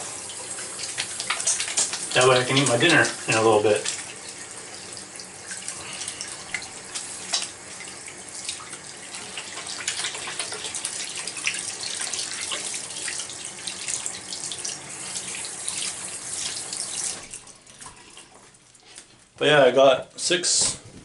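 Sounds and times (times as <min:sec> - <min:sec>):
water splashing into basin: 0:00.0 - 0:18.5
faucet running: 0:00.0 - 0:19.0.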